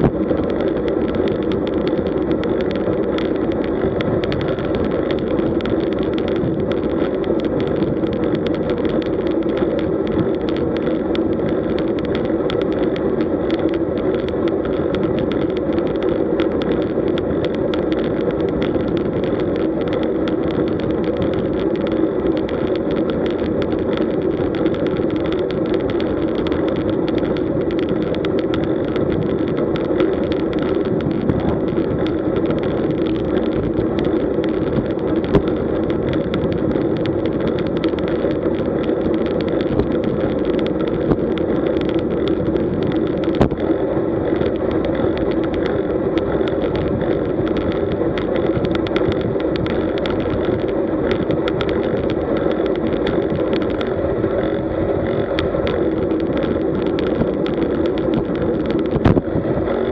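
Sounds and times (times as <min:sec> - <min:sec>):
bicycle tyre noise: 0:00.0 - 0:59.9
small clicks and knocks: 0:00.0 - 0:59.9
wind rush on microphone: 0:00.0 - 0:59.9.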